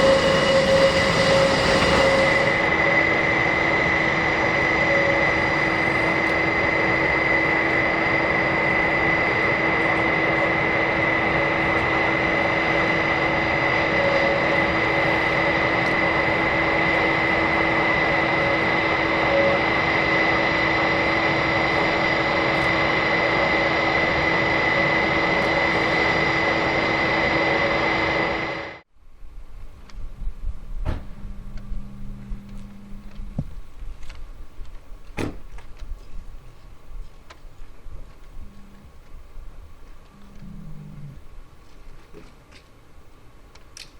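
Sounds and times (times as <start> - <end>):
turboprop engines running: 0.0 - 43.8.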